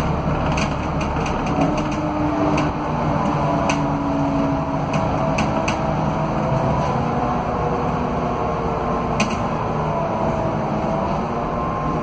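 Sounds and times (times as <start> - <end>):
diesel bus engine running: 0.0 - 12.0
rear axle whine: 0.0 - 12.0.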